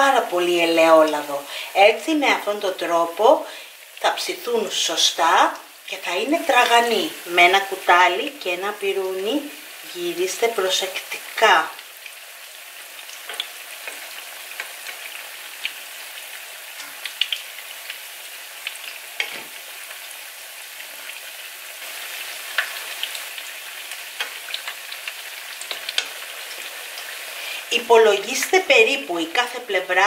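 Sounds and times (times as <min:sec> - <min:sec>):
fritters sizzling in oil: 0:00.0 - 0:30.0.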